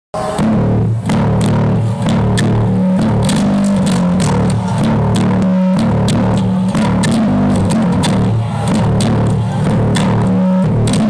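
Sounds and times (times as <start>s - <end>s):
bass guitar line: 0.2s - 11.0s
drum hits: 0.2s - 11.0s.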